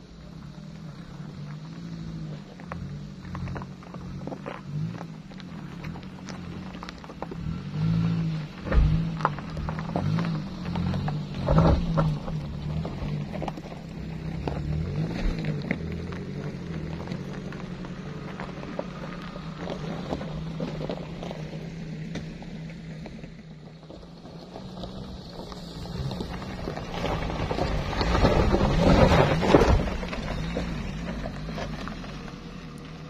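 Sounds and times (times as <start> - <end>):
van engine driving off: 0.0 - 33.0
tyres scrabbling on loose dirt: 0.2 - 33.0.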